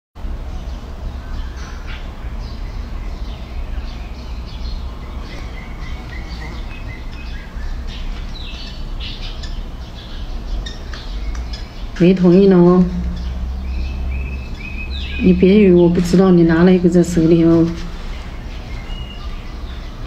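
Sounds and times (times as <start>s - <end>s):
steady low rumble: 0.2s - 20.0s.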